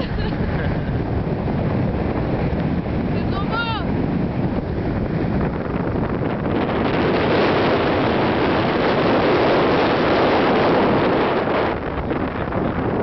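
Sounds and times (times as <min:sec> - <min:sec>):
wind across microphone: 0:00.0 - 0:13.0.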